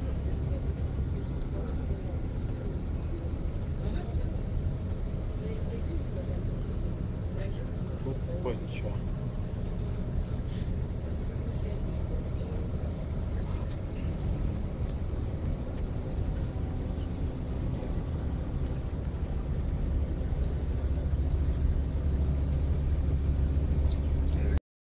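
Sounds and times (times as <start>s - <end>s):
car road and engine noise: 0.0s - 24.6s.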